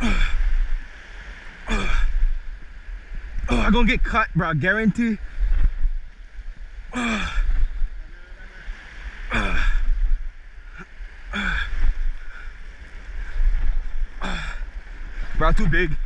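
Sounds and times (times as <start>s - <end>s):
ocean surf: 0.0s - 16.0s
wind rumbling on microphone: 0.0s - 16.0s.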